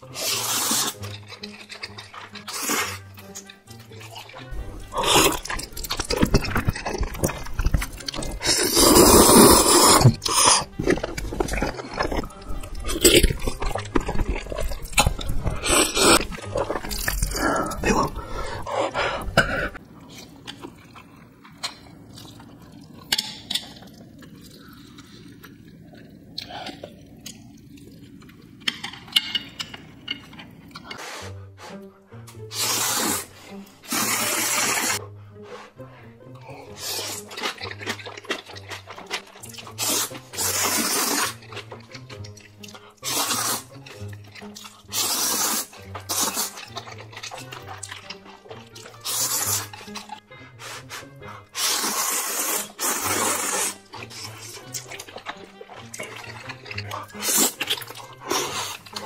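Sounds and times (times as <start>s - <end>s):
background music: 0.0s - 59.0s
chewing noodles: 0.0s - 59.0s.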